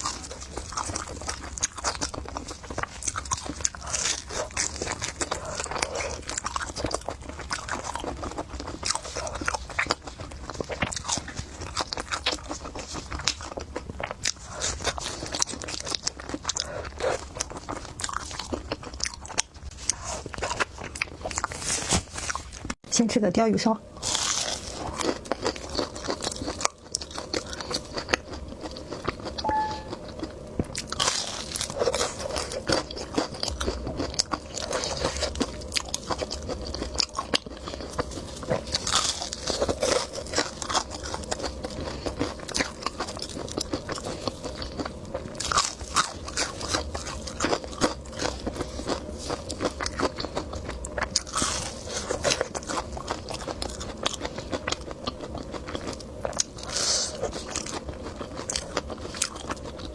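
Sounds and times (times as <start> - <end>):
chewing and biting cake: 0.0 - 22.8, 23.9 - 59.9.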